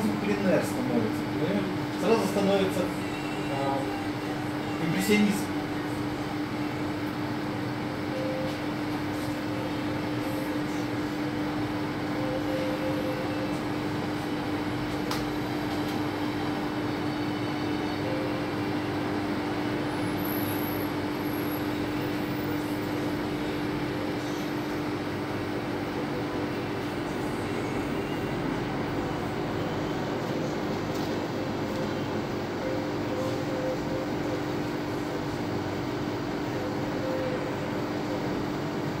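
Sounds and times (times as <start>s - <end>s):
steady mechanical hum and hiss: 0.0s - 39.0s.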